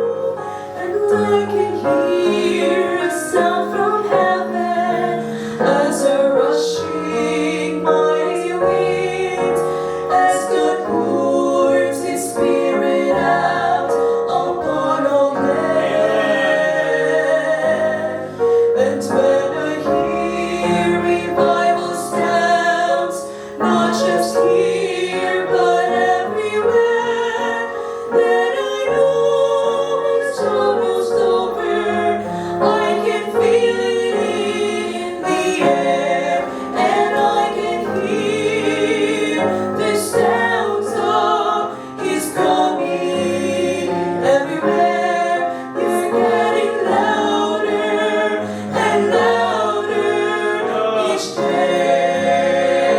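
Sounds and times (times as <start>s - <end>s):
choir singing gospel song: 0.0s - 52.9s
musical accompaniment: 0.0s - 52.9s.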